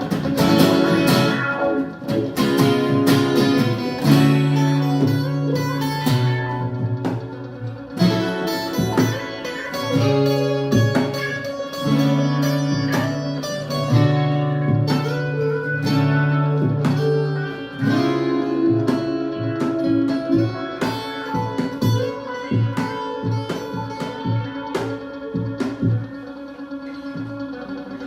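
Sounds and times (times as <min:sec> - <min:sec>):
instrumental guitar music: 0:00.0 - 0:28.0.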